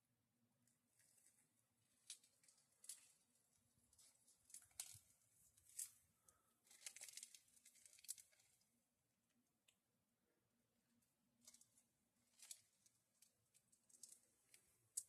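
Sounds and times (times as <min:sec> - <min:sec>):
faint clicks and rustles of handling: 0:00.6 - 0:09.8, 0:10.9 - 0:15.0.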